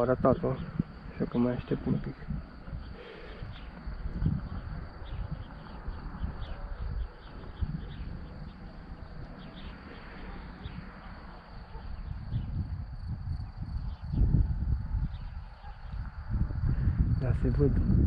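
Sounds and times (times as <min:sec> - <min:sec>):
small birds chirping: 0:00.0 - 0:17.7
wind gusting on microphone: 0:00.0 - 0:18.0.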